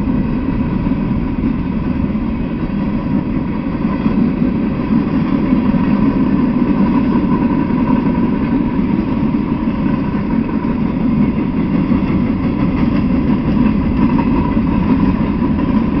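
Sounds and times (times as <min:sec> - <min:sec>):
steel wheels on rail: 0:00.0 - 0:16.0.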